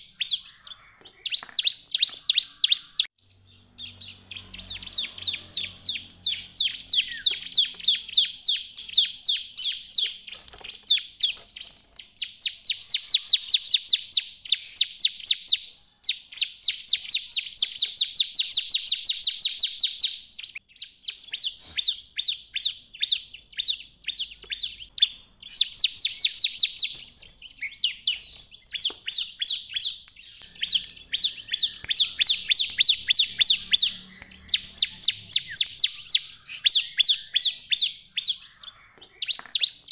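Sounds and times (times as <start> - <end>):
bird singing high chipping notes: 0.0 - 39.9.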